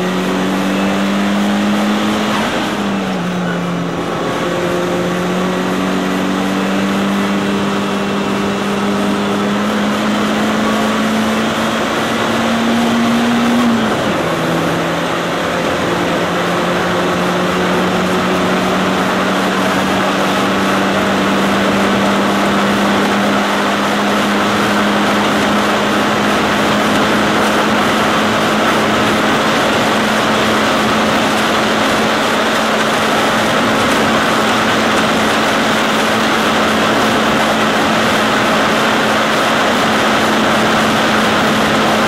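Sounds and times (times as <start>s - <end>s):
car engine accelerating: 0.0s - 42.0s
road and wind noise: 0.0s - 42.0s.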